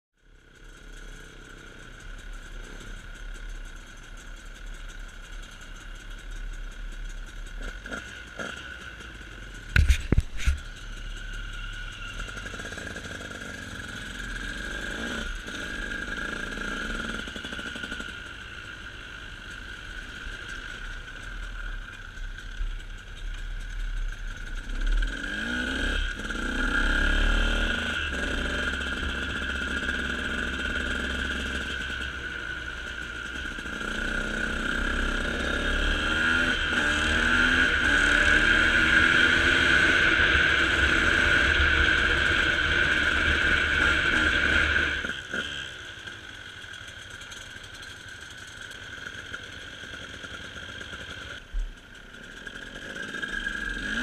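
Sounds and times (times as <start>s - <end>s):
vehicle engine running: 0.2s - 54.0s.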